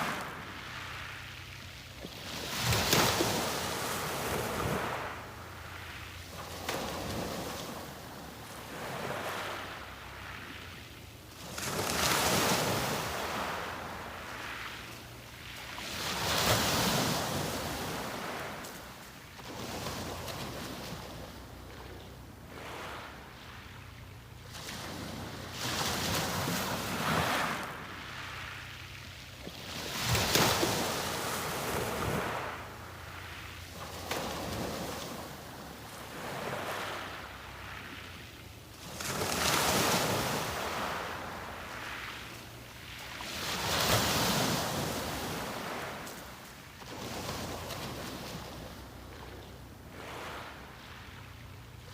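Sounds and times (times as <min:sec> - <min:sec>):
sea waves breaking: 0:00.0 - 0:51.9.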